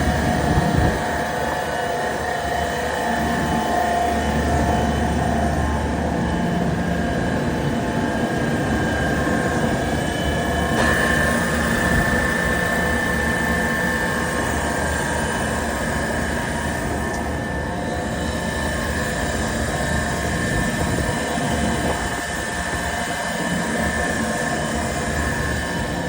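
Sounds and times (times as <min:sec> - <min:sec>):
chiller machine drone with whine: 0:00.0 - 0:26.0.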